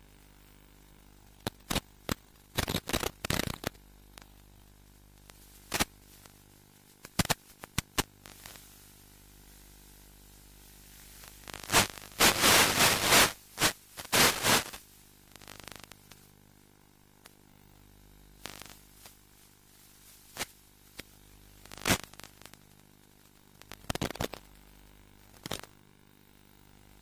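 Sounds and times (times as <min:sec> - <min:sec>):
faint steady hum: 0:00.0 - 0:27.0
radio static crackling: 0:00.8 - 0:27.0.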